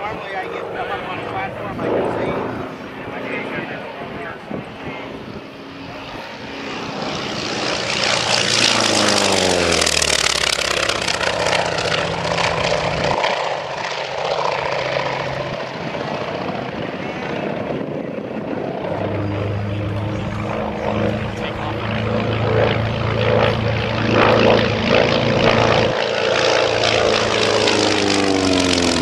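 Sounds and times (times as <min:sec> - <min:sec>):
propeller plane passing: 0:00.0 - 0:29.0.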